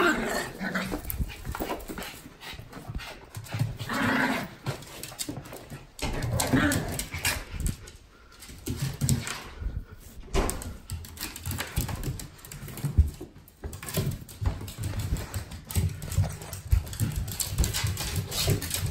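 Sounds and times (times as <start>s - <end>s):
dog paws tapping on wooden floor: 0.1s - 18.9s.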